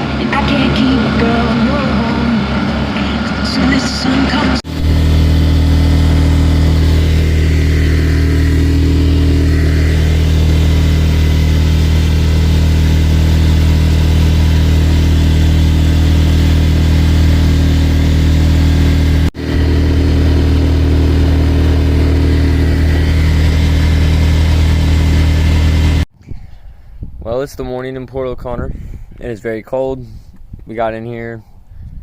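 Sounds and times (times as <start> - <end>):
boat engine droning: 0.0 - 26.1.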